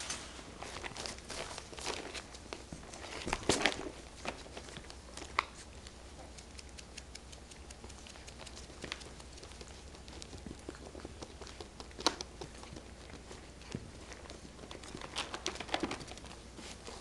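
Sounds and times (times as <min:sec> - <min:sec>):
puppies scuffling: 0:00.0 - 0:06.4, 0:07.6 - 0:17.0.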